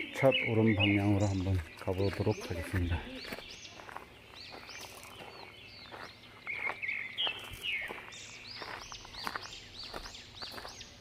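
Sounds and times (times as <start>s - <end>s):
forest birds calling: 0.0s - 11.0s
footsteps on gravel: 0.6s - 11.0s.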